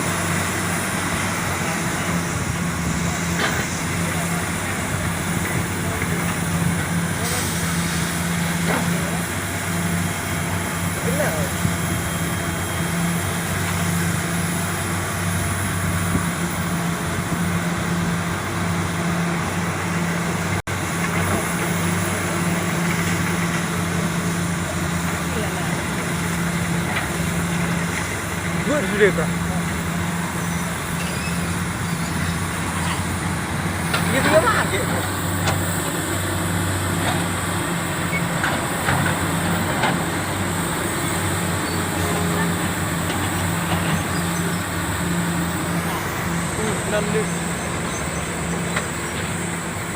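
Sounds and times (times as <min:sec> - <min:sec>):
excavator diesel engine droning: 0:00.0 - 0:49.9.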